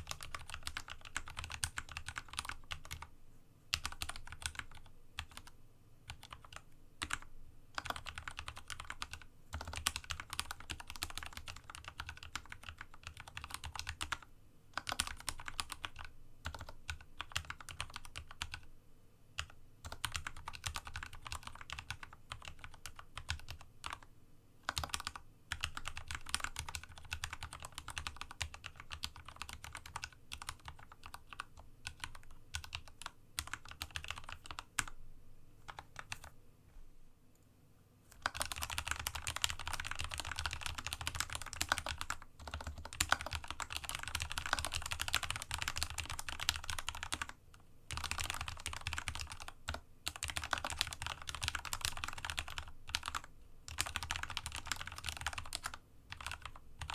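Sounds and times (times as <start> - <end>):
mechanical keyboard typing: 0.0 - 3.1, 3.7 - 18.7, 19.4 - 35.0, 35.6 - 36.3, 38.1 - 56.9.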